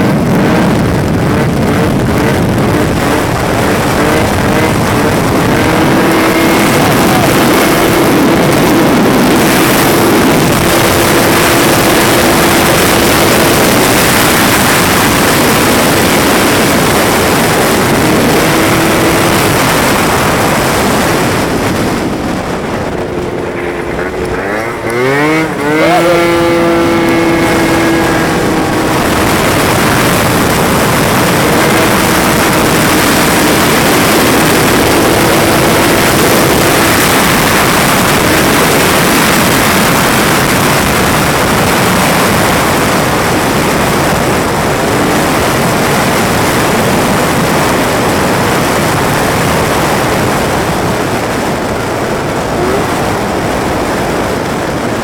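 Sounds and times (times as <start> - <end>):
scooter engine running: 0.0 - 55.0
wind rushing over microphone: 0.0 - 55.0.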